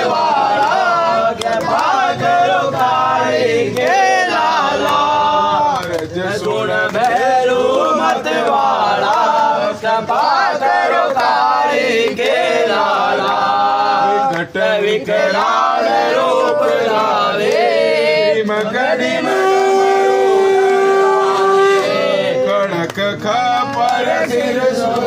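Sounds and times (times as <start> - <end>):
voices singing devotional song: 0.0 - 25.0.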